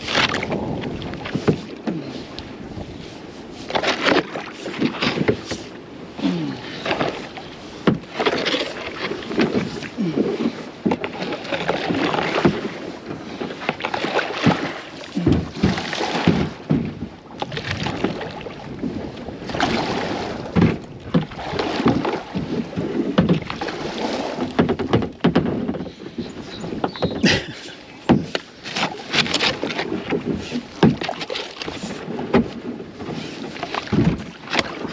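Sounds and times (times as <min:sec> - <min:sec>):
kayak paddle splashing: 0:00.0 - 0:34.9.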